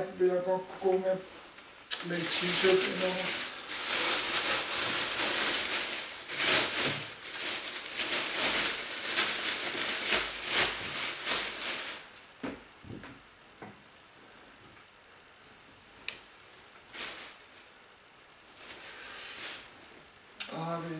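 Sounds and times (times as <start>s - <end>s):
clothes rustling and crinkling: 0.7s - 14.8s, 15.4s - 20.1s.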